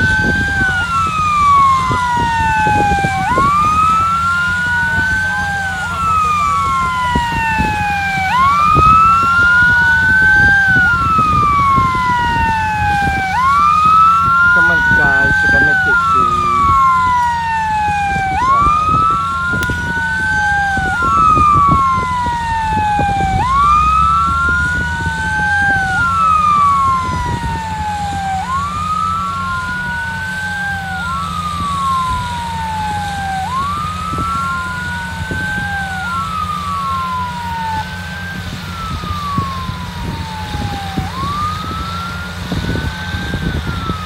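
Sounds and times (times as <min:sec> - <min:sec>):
fire truck siren wailing: 0:00.0 - 0:44.0.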